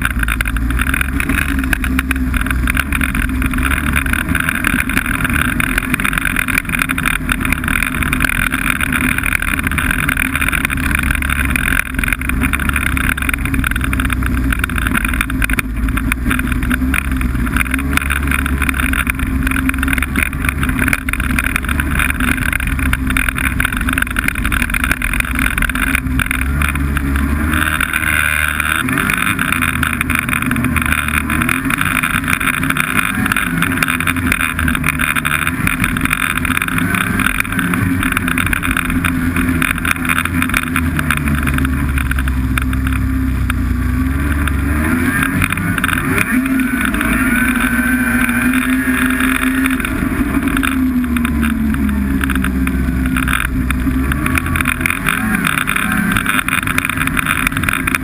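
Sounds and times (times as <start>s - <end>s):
snowmobile engine running: 0.0s - 58.0s
track and wind noise: 0.0s - 58.0s.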